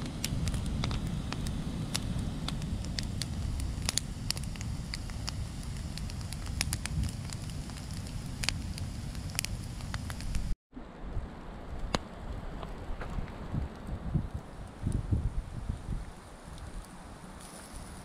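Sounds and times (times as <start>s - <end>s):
campfire crackling and popping: 0.0s - 10.6s, 11.2s - 18.0s
fire low rumble: 0.0s - 18.0s.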